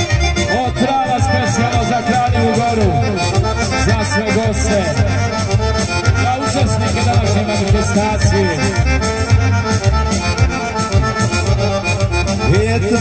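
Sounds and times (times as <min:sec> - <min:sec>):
accordion fast melody: 0:00.0 - 0:13.0
steady bass beat: 0:00.0 - 0:13.0.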